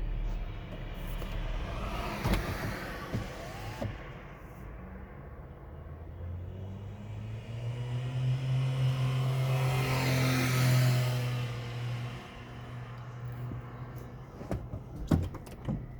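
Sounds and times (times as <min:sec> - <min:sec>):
car engine hum: 0:00.0 - 0:15.9
road noise: 0:00.0 - 0:15.9.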